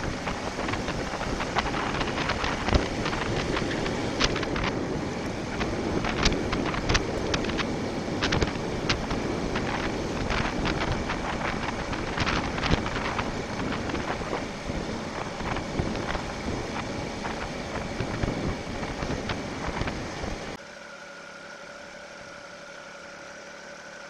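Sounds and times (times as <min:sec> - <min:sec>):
motorcycle running: 0:00.0 - 0:20.6
sharp crackles: 0:00.0 - 0:20.6
wind rushing over microphone: 0:00.0 - 0:20.6.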